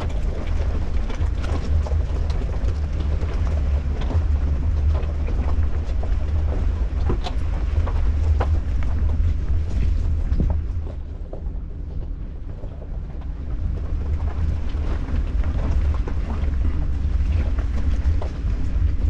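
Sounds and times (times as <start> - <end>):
wind buffeting microphones: 0.0 - 19.0.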